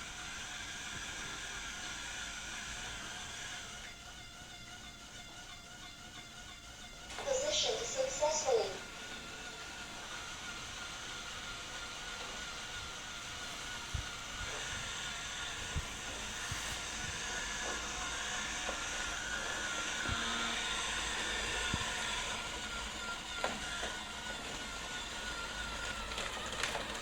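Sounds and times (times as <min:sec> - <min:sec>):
robot vacuum whirring: 0:00.0 - 0:27.0.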